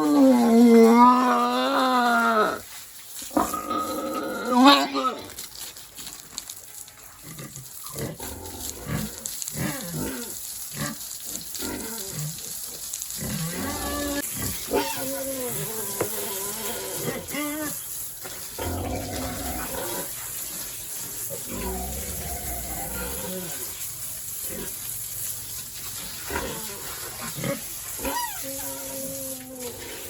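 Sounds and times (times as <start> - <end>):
pigs grunting and calling: 0.0 - 2.7, 3.3 - 5.4, 7.2 - 20.2, 21.3 - 23.8, 26.0 - 30.0.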